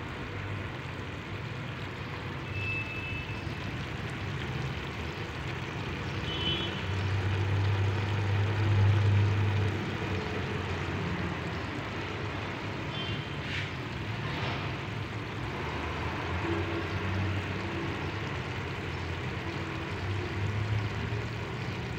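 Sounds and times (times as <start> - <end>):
pot cooking with rumbling hiss: 0.0 - 21.9.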